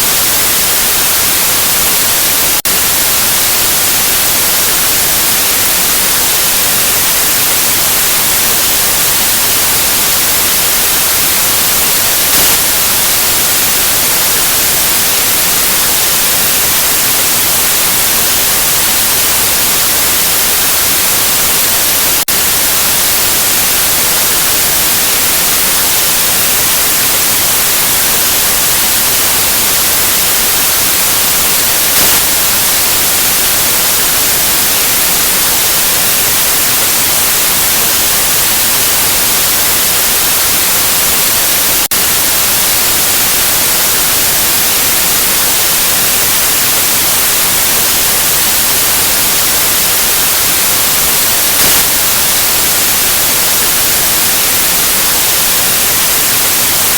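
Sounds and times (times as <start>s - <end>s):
white noise hiss: 0.0s - 56.9s.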